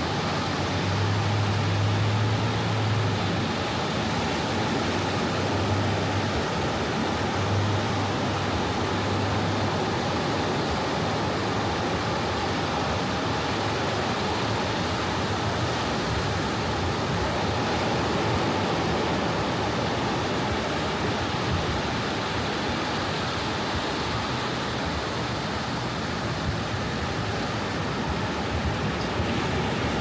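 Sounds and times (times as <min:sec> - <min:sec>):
ocean waves washing on beach: 0:00.0 - 0:30.0.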